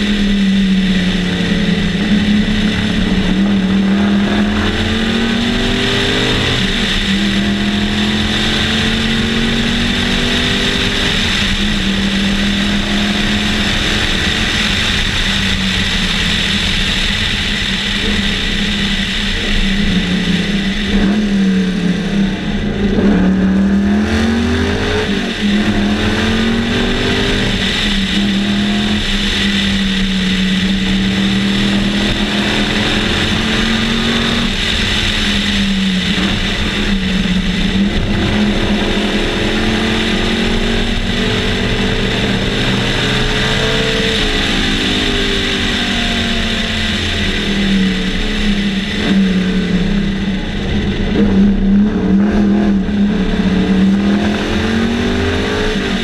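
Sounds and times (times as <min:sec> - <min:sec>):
race car engine revving: 0:00.0 - 0:56.0
wind and road noise: 0:00.0 - 0:56.0.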